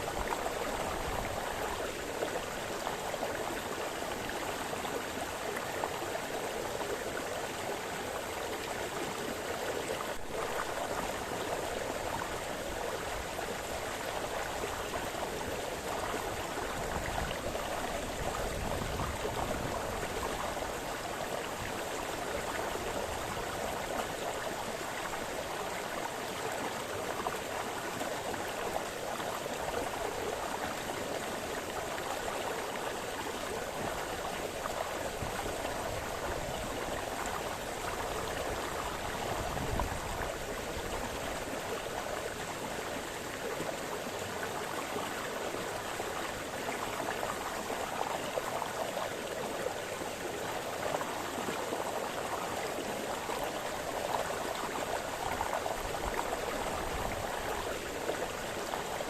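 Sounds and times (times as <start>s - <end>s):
brook burbling over stones: 0.0s - 59.0s.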